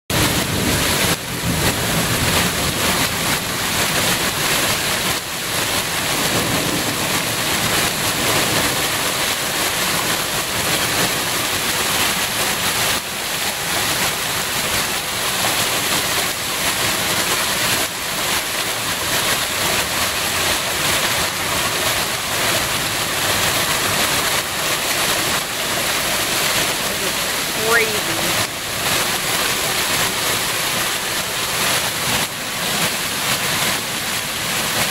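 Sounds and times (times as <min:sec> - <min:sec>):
heavy rain and hail pelting: 0:00.1 - 0:34.9.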